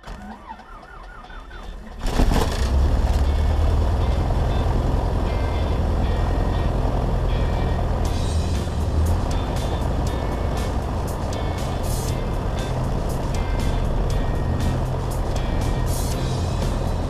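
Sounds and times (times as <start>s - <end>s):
aircraft piston engine running: 2.7s - 17.0s.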